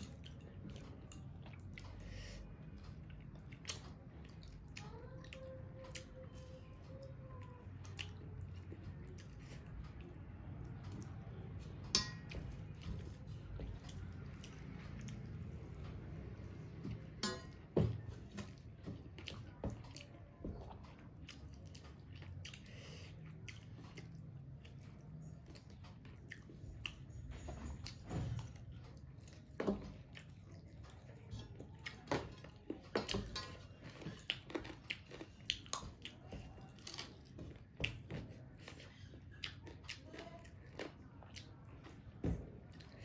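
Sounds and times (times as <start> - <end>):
person chewing and smacking: 0.0 - 43.0.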